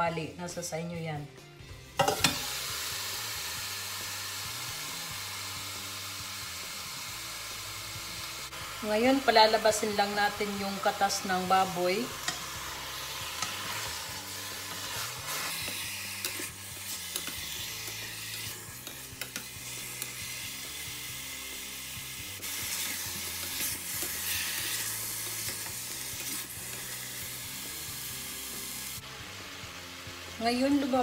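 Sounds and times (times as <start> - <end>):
pork sizzling in a pot: 1.7 - 31.0.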